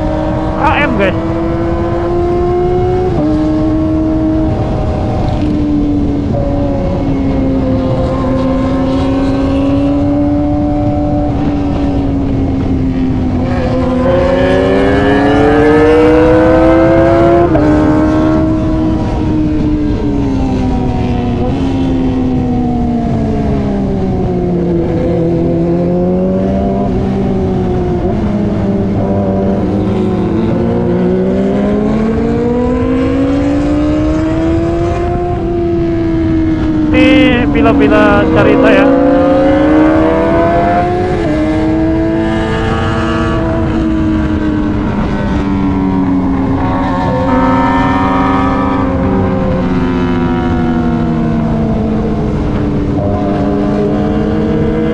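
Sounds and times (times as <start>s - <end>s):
motorcycle engine revving: 0.0s - 37.0s, 38.2s - 54.9s.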